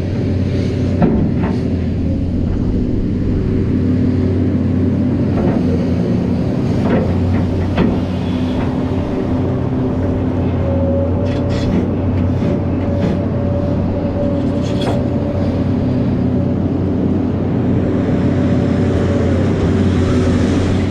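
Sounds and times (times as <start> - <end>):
heavy diesel engines running: 0.0 - 20.9
held whine: 0.0 - 20.9.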